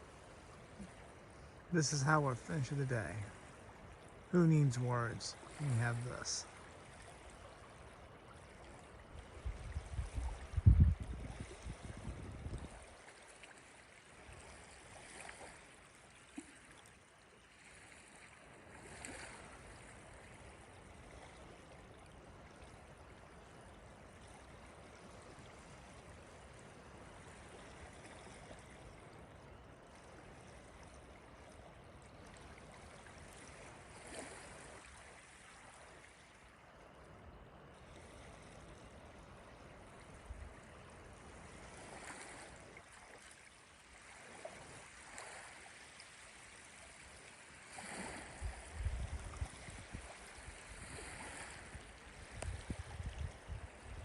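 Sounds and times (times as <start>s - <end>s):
lake waves lapping at shore: 0.0s - 54.0s.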